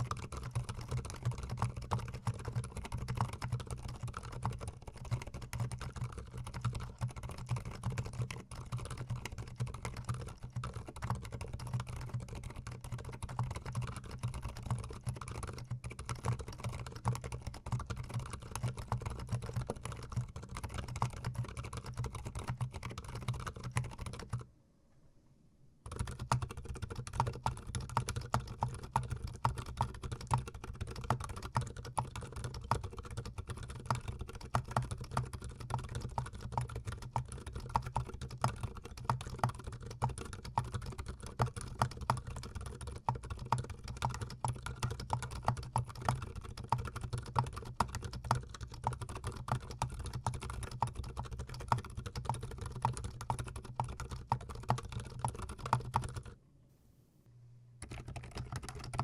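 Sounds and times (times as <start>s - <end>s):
mechanical keyboard typing: 0.0s - 24.4s, 25.9s - 56.4s, 57.8s - 59.0s.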